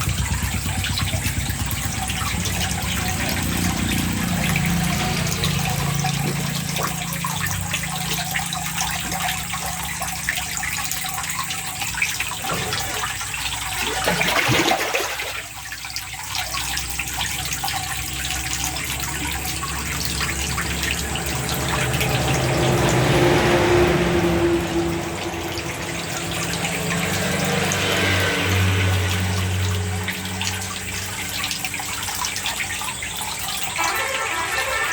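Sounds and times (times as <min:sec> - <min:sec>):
water running and splashing: 0:00.0 - 0:34.9.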